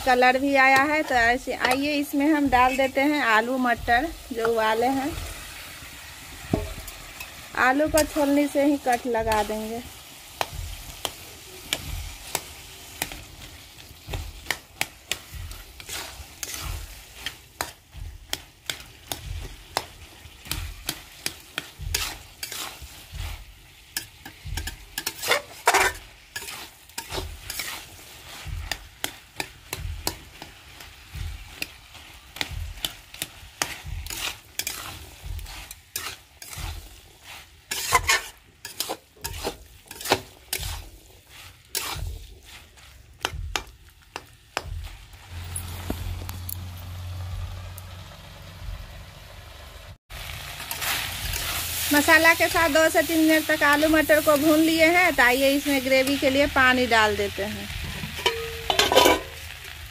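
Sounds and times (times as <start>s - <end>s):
metal spatula scraping a pan: 0.0s - 3.5s, 6.3s - 45.9s, 50.6s - 56.7s, 57.7s - 59.7s
low sizzle: 0.0s - 59.9s.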